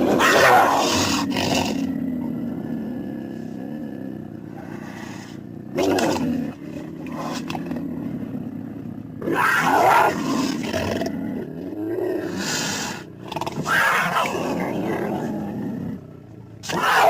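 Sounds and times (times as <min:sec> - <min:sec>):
creature low growl: 0:00.0 - 0:17.0.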